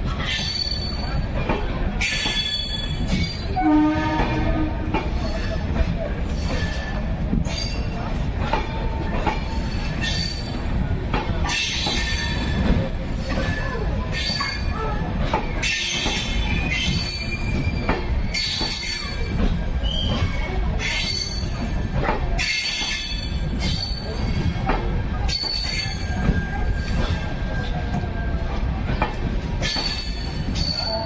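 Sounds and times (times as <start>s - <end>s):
train rumble: 0.0s - 31.0s
train wheels clattering: 0.0s - 31.0s.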